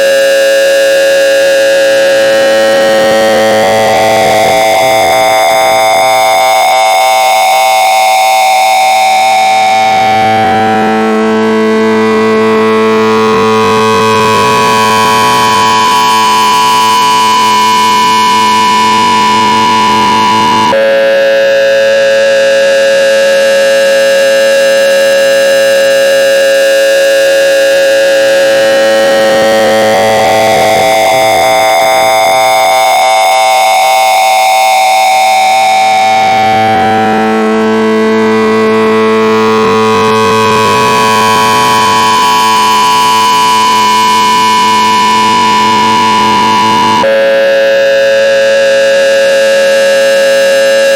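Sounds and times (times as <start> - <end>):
harsh synthesized electronic tone: 0.0 - 50.9.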